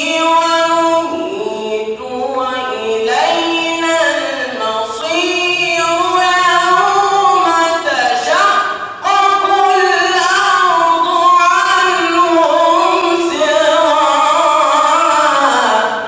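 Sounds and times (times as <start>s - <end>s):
person reciting melodically: 0.0s - 16.0s.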